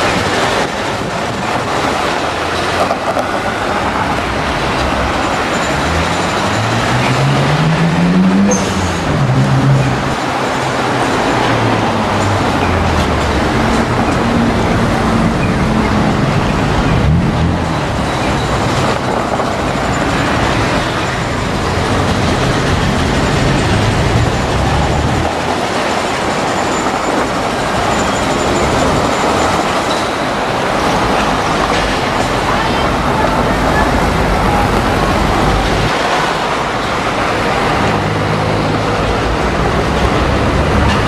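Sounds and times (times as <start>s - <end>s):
bus diesel engine drone: 0.0s - 41.0s
cars passing: 0.0s - 41.0s.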